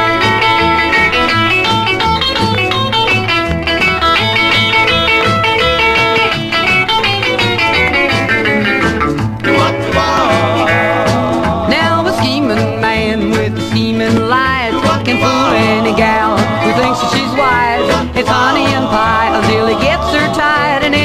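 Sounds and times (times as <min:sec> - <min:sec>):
electric guitar fast lead: 0:00.0 - 0:21.0
steady bass line: 0:00.0 - 0:21.0.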